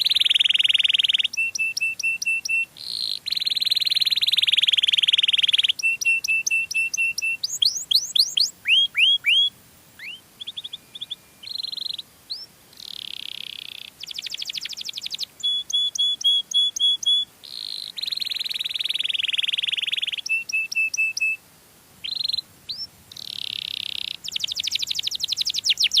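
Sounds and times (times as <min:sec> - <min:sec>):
canary singing: 0:00.0 - 0:21.4, 0:22.0 - 0:26.0.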